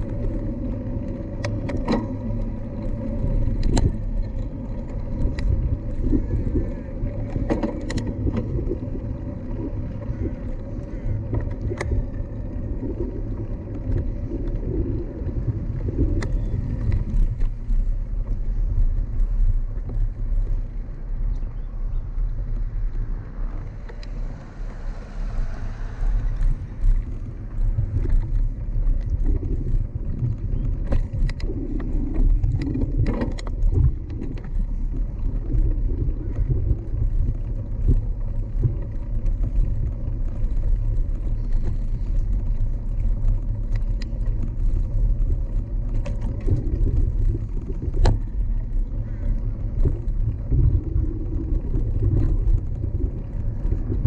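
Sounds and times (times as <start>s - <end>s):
bicycle rattles and clicks: 0.0s - 54.0s
wind and road noise: 0.0s - 54.0s.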